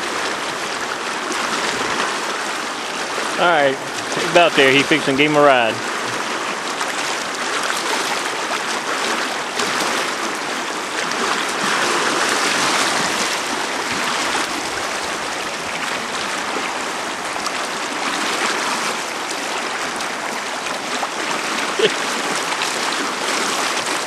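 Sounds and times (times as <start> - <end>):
river rapids rushing: 0.0 - 24.0.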